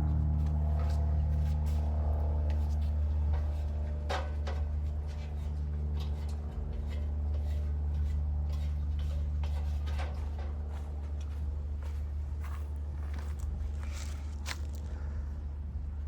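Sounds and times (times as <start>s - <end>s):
low hum of even tones: 0.0s - 16.0s.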